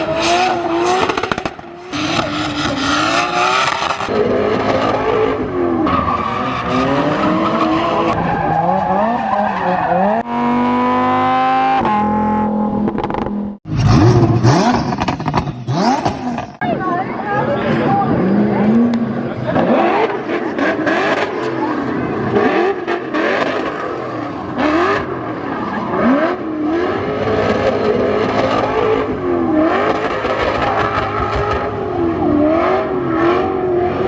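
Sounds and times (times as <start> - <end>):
car engines revving hard: 0.0 - 16.6, 17.4 - 34.0.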